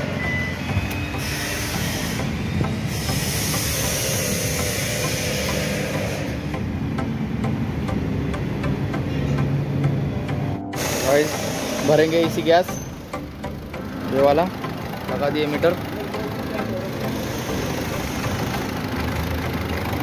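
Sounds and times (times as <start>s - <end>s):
car engine idling: 0.0s - 20.0s
blower fan air rushing: 0.8s - 7.4s, 10.5s - 20.0s.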